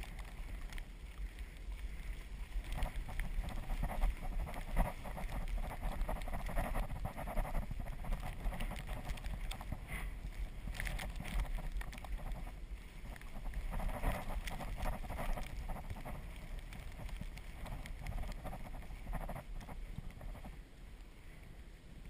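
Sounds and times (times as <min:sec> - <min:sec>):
tyres crunching through snow: 0:00.0 - 0:20.6.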